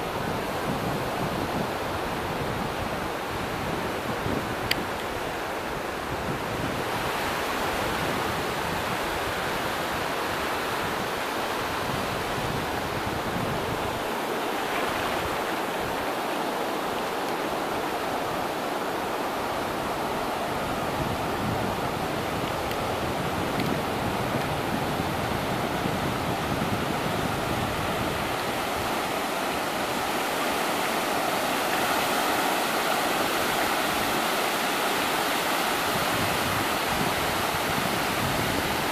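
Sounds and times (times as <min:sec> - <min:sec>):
surf breaking on a beach: 0:00.0 - 0:38.9
wind rumbling on the microphone: 0:00.0 - 0:38.9.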